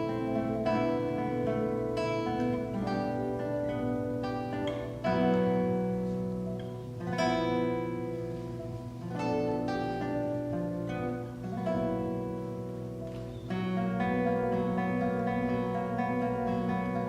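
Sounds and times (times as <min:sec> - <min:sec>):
classical guitar playing: 0:00.0 - 0:17.0.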